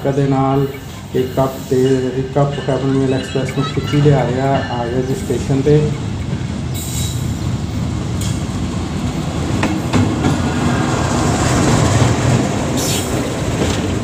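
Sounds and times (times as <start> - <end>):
diesel locomotive passing: 0.0 - 14.0
train coaches rumbling: 0.0 - 14.0.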